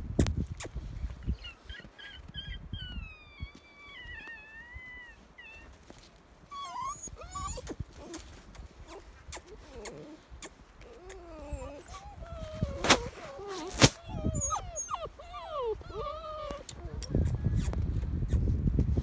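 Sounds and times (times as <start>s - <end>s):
puppies whining and whimpering: 1.2s - 17.6s.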